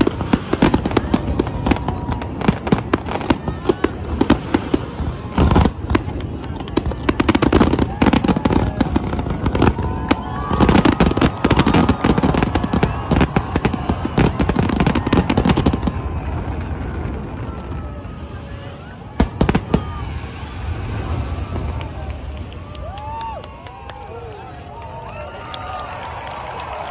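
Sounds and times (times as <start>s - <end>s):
crowd voices: 0.0s - 26.9s
fireworks bangs and crackle: 0.0s - 26.9s.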